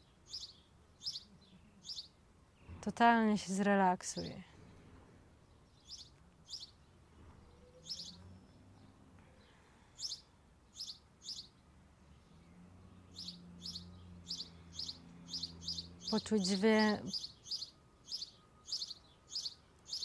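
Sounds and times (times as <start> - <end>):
small bird chirping: 0.0 - 2.8, 5.4 - 20.0.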